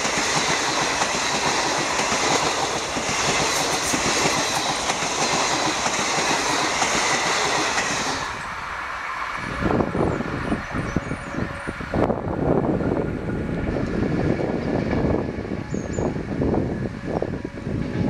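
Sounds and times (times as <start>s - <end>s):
train coaches rushing and rattling past: 0.0s - 18.0s.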